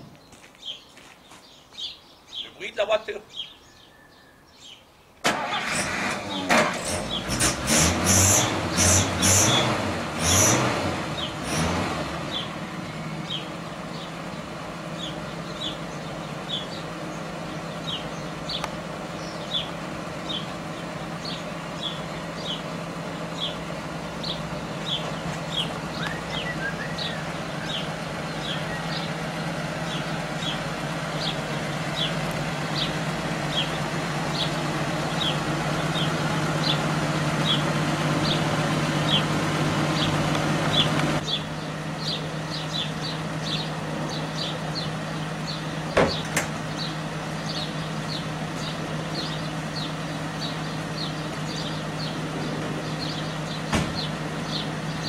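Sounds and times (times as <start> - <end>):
bird chirping: 0.0 - 5.2, 12.3 - 55.0
car engine idling: 10.8 - 55.0.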